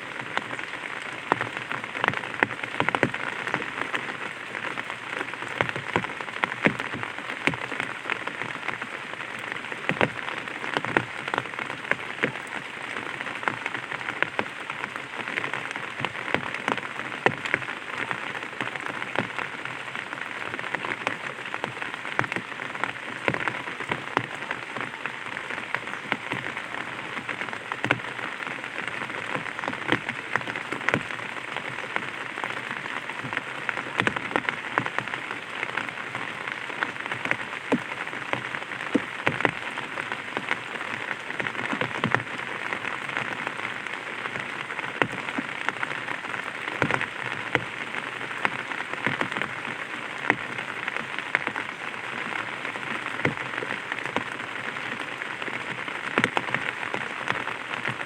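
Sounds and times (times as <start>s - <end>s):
light rain on an umbrella: 0.0s - 58.0s.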